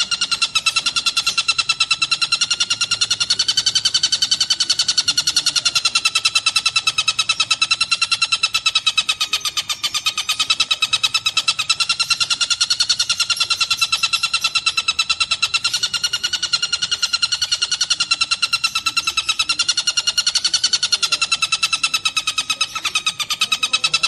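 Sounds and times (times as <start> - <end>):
kingfisher calling in rapid trill: 0.0 - 24.0.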